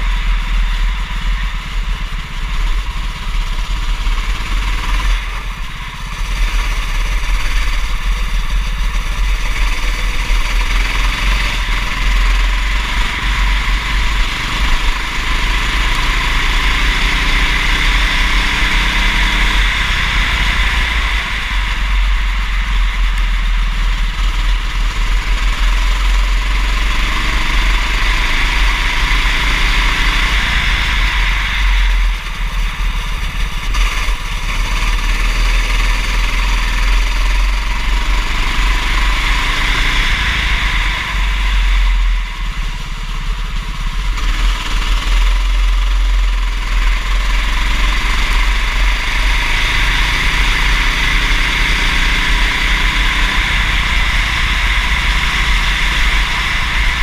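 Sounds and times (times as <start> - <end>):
go-kart engine running hard: 0.0 - 57.0
heavy low rumble: 0.0 - 57.0
steady rushing noise: 0.0 - 57.0.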